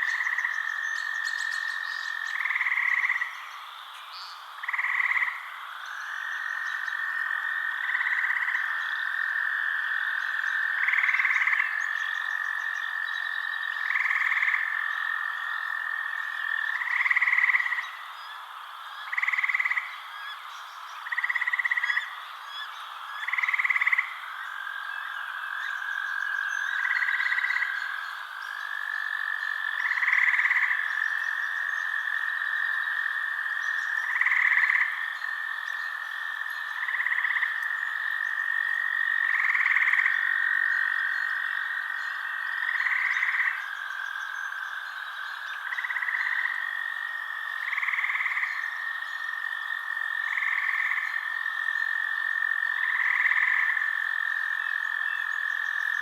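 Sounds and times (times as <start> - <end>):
frog croaking call: 0.0 - 56.0
frogs trilling: 0.0 - 56.0.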